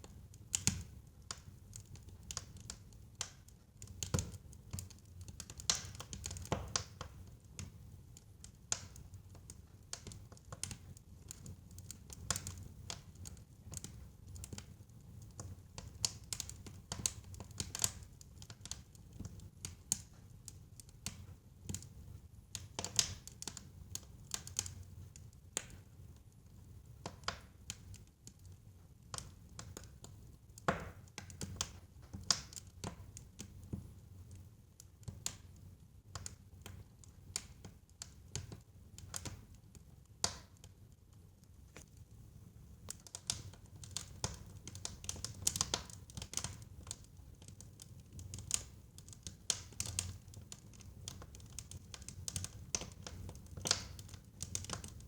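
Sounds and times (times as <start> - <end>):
wood fire pops and snaps: 0.0 - 25.9, 26.8 - 42.1, 42.8 - 55.0
low sound of burning: 0.0 - 55.0.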